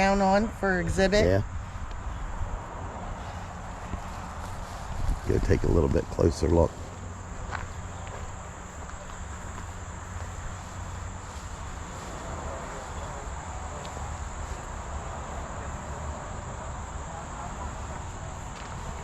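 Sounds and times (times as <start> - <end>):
high-pitched insect drone: 0.9 - 19.0.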